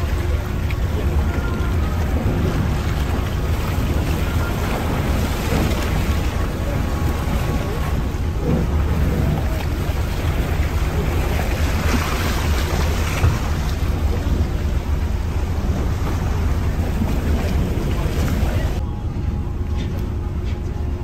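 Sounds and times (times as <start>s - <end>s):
ship engine rumble: 0.0s - 21.0s.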